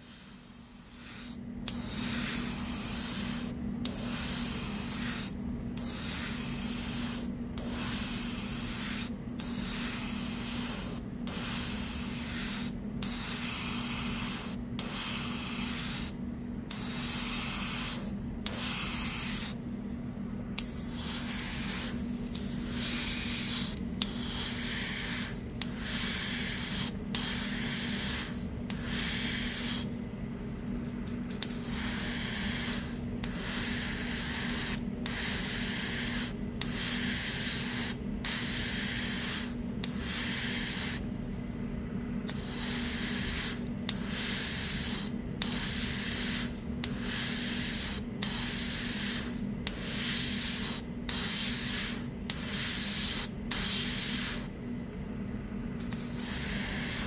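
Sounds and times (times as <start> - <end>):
airbrush spraying hiss: 0.0 - 19.6, 20.6 - 30.0, 31.4 - 41.1, 42.3 - 54.6, 55.9 - 57.0.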